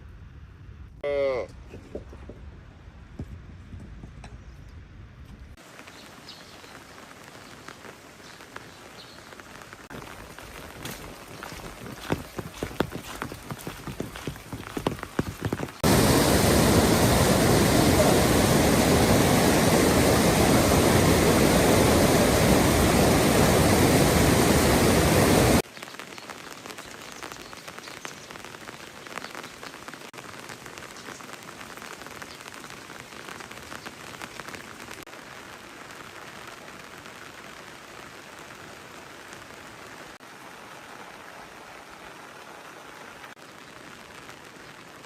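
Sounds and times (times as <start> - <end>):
light rain pattering with drips: 5.5 - 45.0
heavy rain pouring: 5.6 - 45.0.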